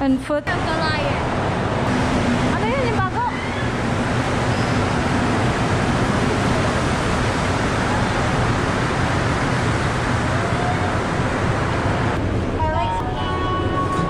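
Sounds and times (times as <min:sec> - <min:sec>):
metro train rolling into station: 0:00.0 - 0:14.0.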